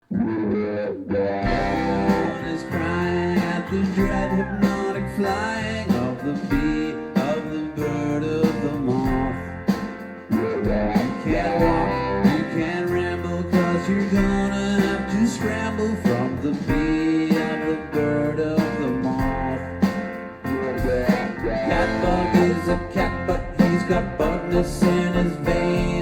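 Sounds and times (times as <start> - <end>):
rock band playing live: 1.3 - 26.0.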